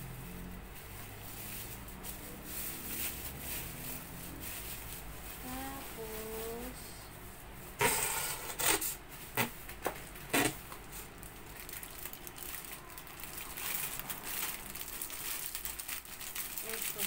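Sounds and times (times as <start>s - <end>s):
plastic packaging crinkling: 0.1s - 6.8s, 8.6s - 17.0s.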